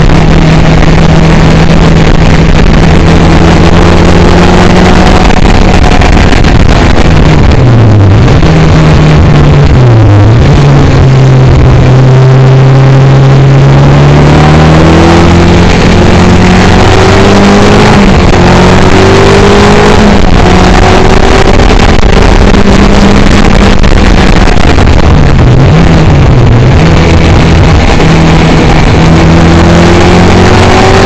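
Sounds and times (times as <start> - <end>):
car engine accelerating hard: 0.0 - 31.0
road and wind noise: 0.0 - 31.0.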